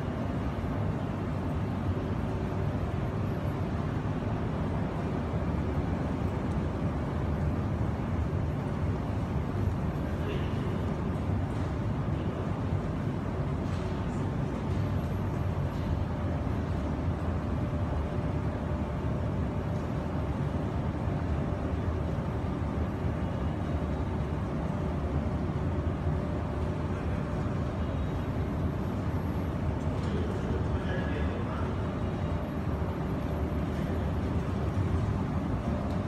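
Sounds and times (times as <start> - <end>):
low background rumble and hum: 0.0 - 36.0.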